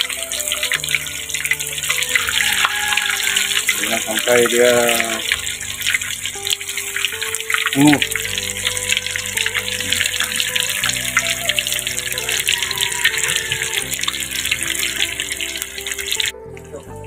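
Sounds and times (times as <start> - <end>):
tofu deep-frying in hot oil: 0.0 - 16.3
background music with held chords: 0.0 - 17.0.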